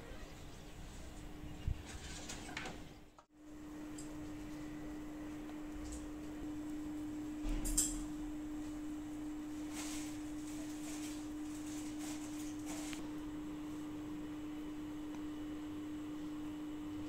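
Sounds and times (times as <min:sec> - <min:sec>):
steady humming tone: 0:03.2 - 0:17.0.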